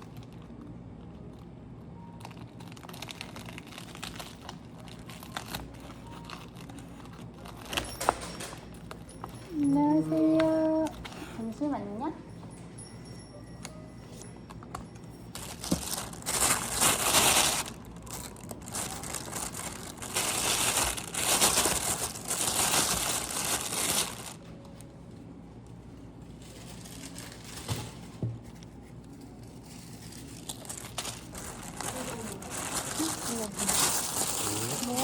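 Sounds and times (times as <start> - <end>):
crinkling and rustling: 0.0 - 12.7, 13.6 - 35.0.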